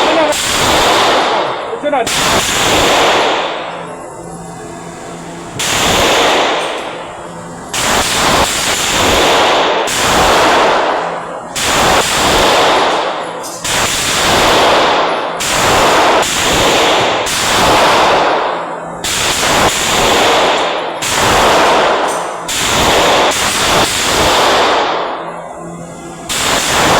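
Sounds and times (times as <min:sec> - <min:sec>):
gunshots echoing: 0:00.0 - 0:03.8, 0:05.6 - 0:07.0, 0:07.7 - 0:25.2, 0:26.3 - 0:26.9.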